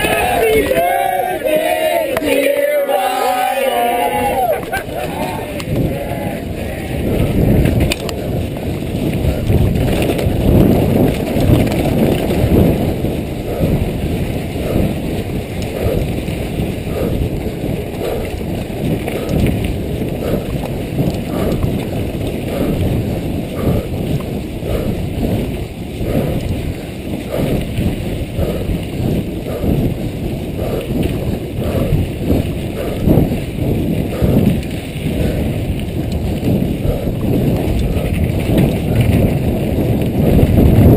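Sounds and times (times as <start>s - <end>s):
bike rattling over bumps: 0.0s - 1.0s, 4.4s - 40.9s
tyres on dirt: 0.0s - 40.9s
wind on microphone: 0.0s - 40.9s.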